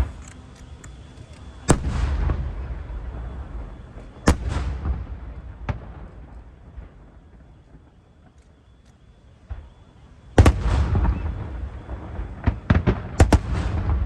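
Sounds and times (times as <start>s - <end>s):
fireworks booming: 0.0s - 14.0s
rolling low rumble: 0.0s - 14.0s.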